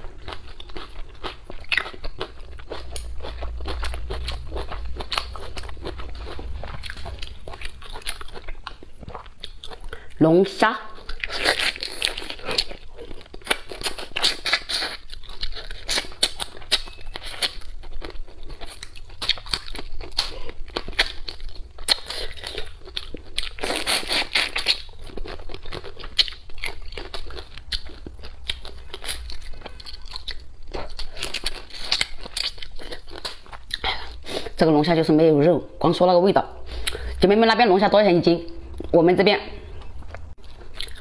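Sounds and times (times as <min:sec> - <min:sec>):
person eating with mouth sounds: 0:00.0 - 0:10.2, 0:10.9 - 0:34.6, 0:39.6 - 0:41.0.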